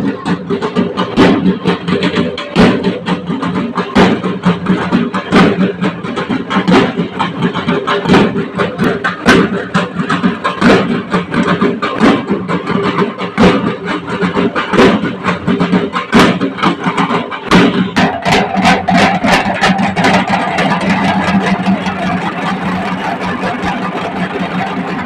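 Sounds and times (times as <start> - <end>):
barrel drums beaten with sticks: 0.0 - 25.0.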